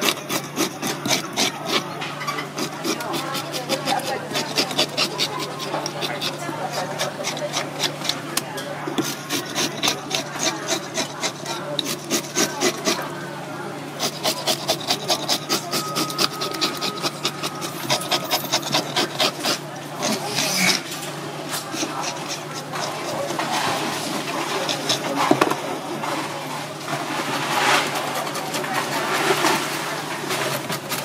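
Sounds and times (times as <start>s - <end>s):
fish scaler scraping scales: 0.0s - 13.2s, 13.9s - 26.3s.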